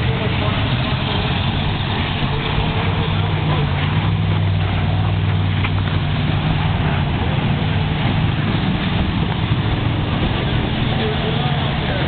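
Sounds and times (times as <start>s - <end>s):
car engines droning: 0.0s - 12.0s
dense rough noise: 0.0s - 12.0s.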